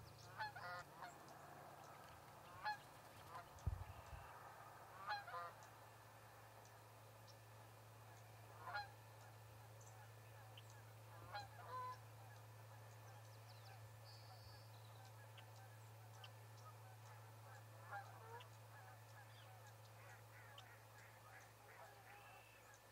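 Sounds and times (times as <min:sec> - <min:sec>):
faint bird calls: 0:00.0 - 0:05.8, 0:08.1 - 0:22.9
low electrical hum: 0:00.0 - 0:22.9.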